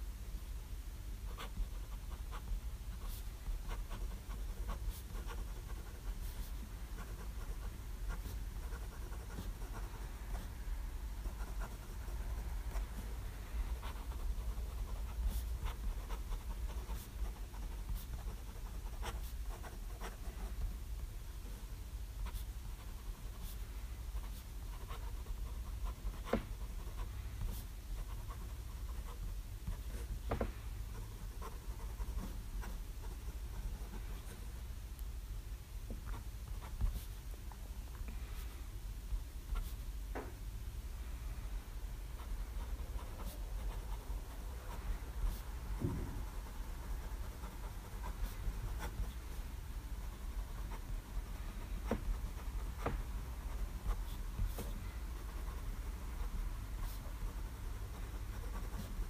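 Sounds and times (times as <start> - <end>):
steady low hum: 0.0 - 59.0
pen nib scratching on paper: 1.3 - 10.6, 11.2 - 20.8, 22.2 - 34.4, 42.2 - 59.0.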